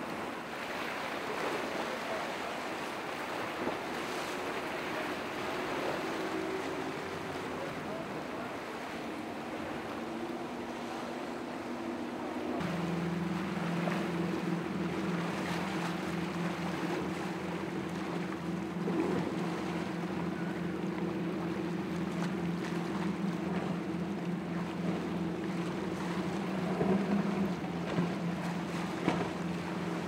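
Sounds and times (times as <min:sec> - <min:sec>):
motorboat engine running: 0:00.0 - 0:30.0
water rushing around hull: 0:00.0 - 0:30.0.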